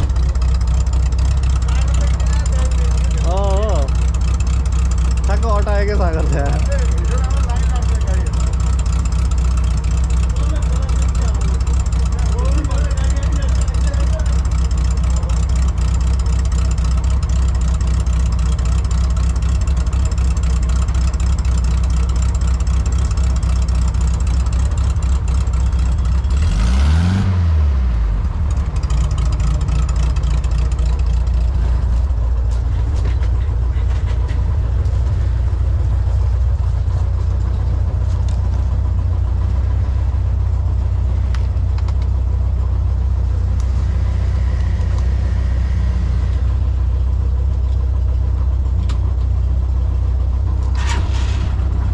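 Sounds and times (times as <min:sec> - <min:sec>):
vehicle engine running: 0:00.0 - 0:51.9.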